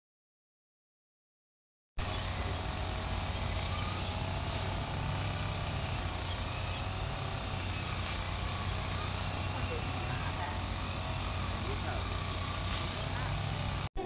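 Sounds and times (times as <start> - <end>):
outdoor background noise with hum: 2.0 - 14.0.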